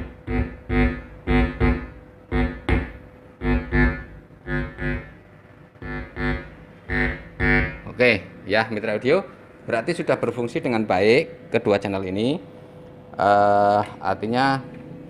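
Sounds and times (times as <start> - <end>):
mains hum buzzing: 0.0 - 15.0.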